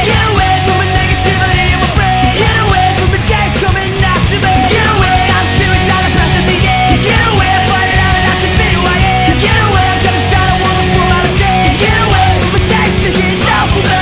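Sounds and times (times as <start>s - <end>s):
punk rock music: 0.0s - 14.0s.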